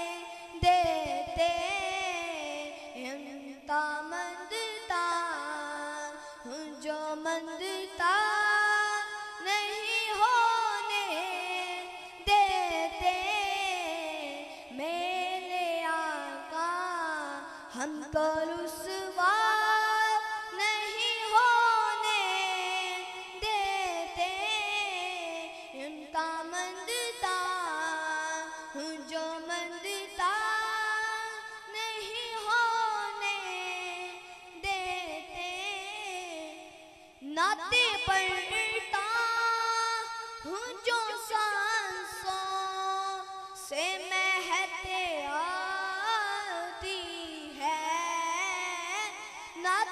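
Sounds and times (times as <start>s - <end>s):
boy singing into microphone: 0.0s - 49.9s.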